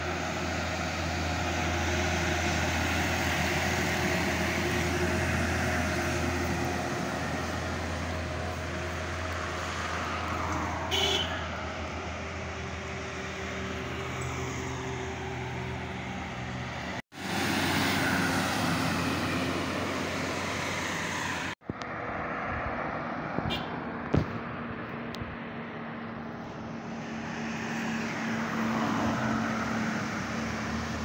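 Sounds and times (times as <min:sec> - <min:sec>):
truck diesel engines passing: 0:00.0 - 0:31.0
tyre and traffic noise: 0:00.0 - 0:31.0.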